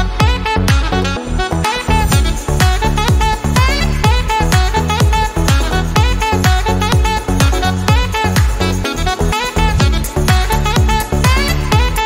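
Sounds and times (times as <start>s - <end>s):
kick drum: 0.0s - 1.0s, 2.0s - 8.8s, 9.6s - 12.0s
electronic dance music: 0.0s - 12.0s.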